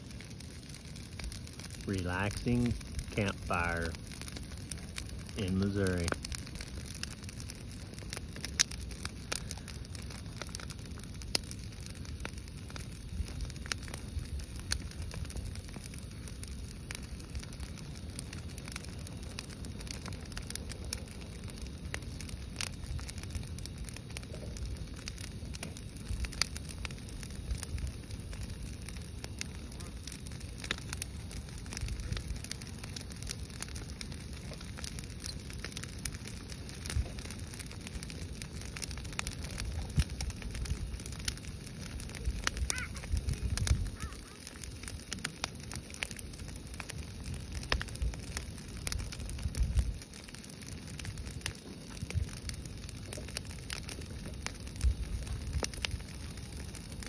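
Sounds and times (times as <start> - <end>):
brush fire crackling and popping: 0.0 - 57.0
low fire rumble: 0.0 - 57.0.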